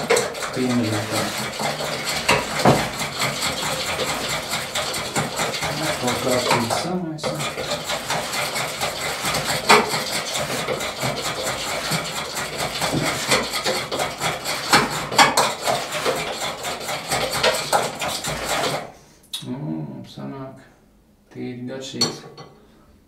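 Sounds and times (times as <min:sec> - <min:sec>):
whisk beating batter in glass bowl: 0:00.0 - 0:19.0.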